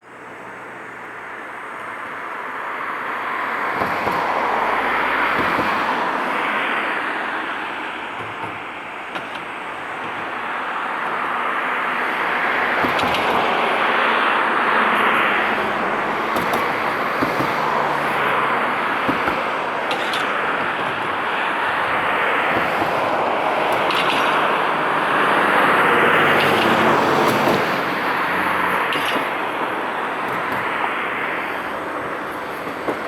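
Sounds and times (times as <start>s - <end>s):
electric train rushing past: 0.4s - 33.0s.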